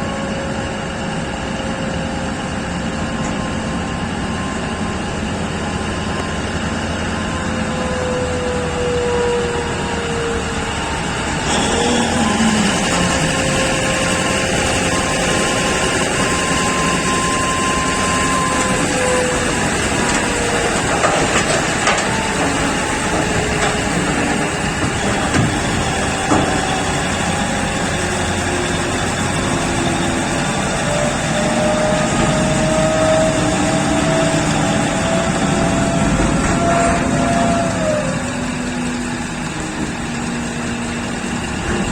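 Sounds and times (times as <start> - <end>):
mining machinery engine drone: 0.0 - 41.9
whining drive tones: 0.0 - 41.9.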